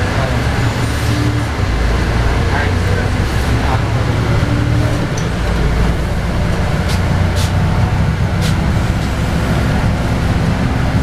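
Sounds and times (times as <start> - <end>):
bus diesel engine rumbling: 0.0 - 11.0
road noise: 0.0 - 11.0.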